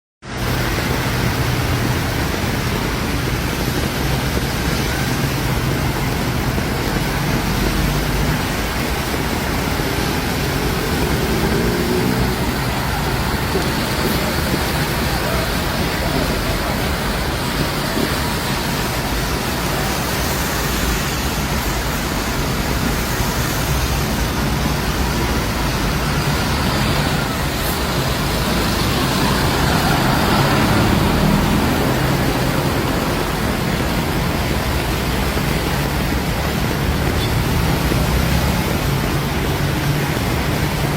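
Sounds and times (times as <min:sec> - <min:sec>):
heavy rain: 0:00.2 - 0:40.9
road traffic on wet street: 0:00.2 - 0:40.9.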